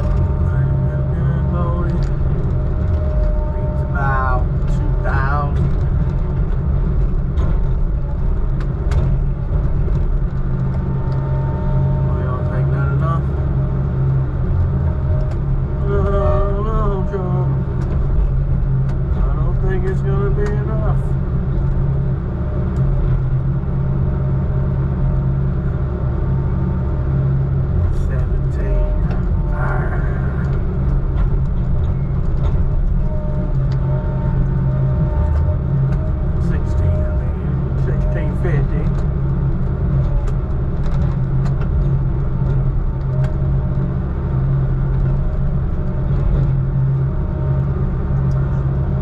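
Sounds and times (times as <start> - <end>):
diesel truck engine rumbling: 0.0 - 49.0.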